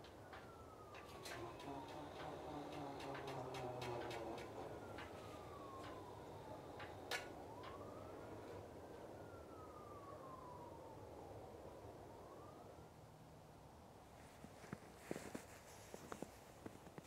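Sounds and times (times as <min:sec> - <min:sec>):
faint siren wailing: 0:00.0 - 0:16.8.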